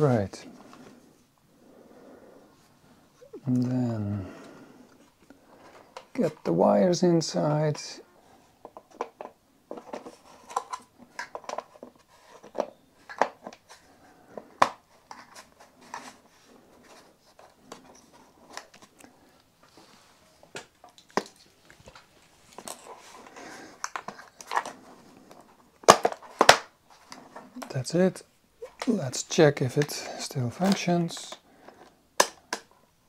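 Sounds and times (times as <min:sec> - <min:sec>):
rustling handling noise: 0:04.9 - 0:32.0.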